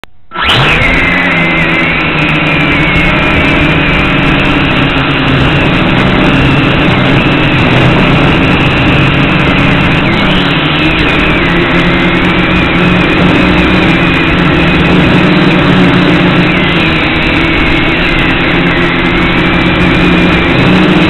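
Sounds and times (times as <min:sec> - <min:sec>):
drone motors whining: 0:00.3 - 0:21.0.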